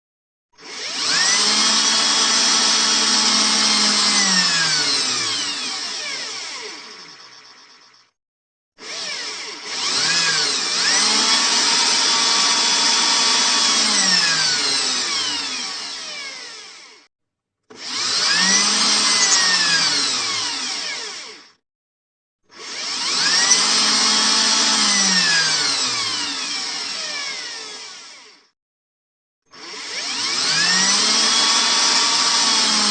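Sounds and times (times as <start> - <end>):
electric drill whining: 0.6 - 8.2, 8.8 - 17.1, 17.7 - 21.6, 22.5 - 28.6, 29.5 - 32.9.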